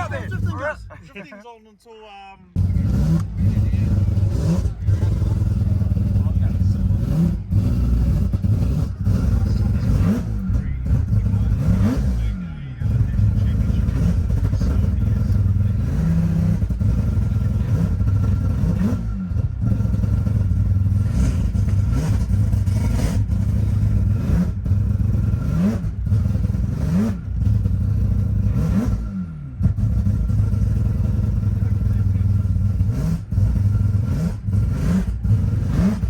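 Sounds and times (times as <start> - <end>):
car engine revving: 0.0 - 1.2, 2.5 - 36.0.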